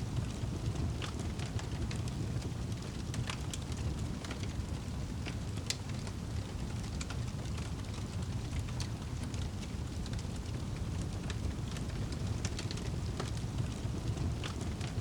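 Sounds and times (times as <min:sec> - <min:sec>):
low rumble of burning fire: 0:00.0 - 0:15.0
wood fire crackling: 0:00.0 - 0:15.0
fire pops and snaps: 0:00.2 - 0:15.0.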